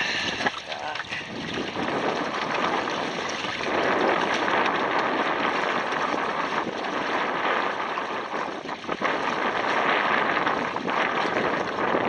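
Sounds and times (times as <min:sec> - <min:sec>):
water washing along hulls: 0:00.0 - 0:12.0
wind across microphone: 0:00.0 - 0:12.0.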